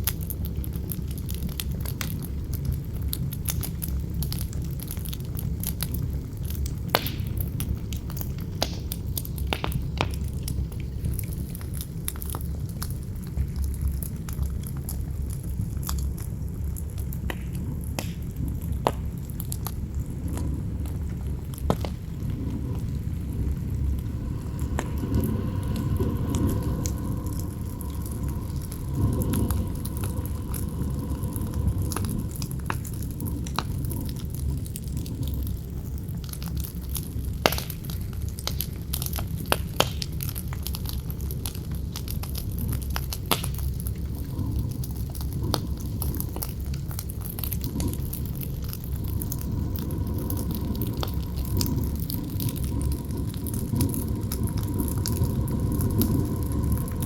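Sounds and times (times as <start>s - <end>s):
campfire crackling and popping: 0.0s - 57.0s
low wind rumble: 0.0s - 57.0s.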